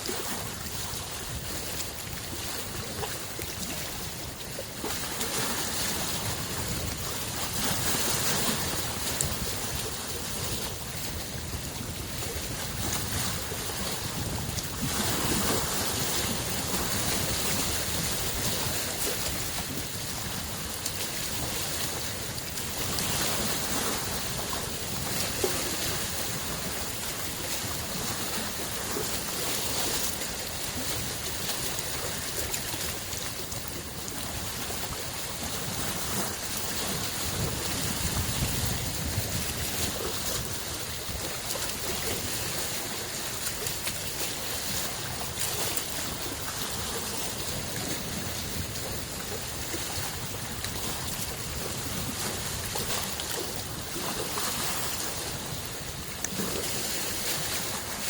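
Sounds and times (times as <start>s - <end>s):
lake waves washing on shore: 0.0s - 58.0s.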